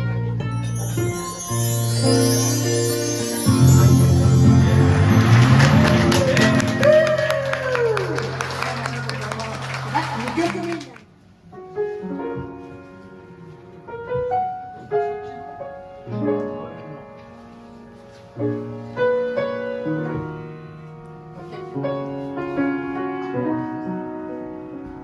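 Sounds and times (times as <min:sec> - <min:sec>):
slow piano playing: 0:00.0 - 0:09.2, 0:11.4 - 0:25.0.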